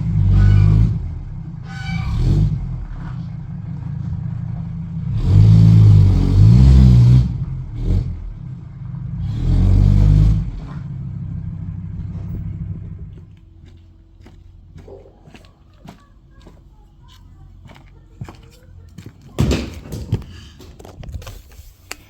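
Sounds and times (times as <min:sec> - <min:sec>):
diesel engine revving and idling: 0:00.0 - 0:19.4.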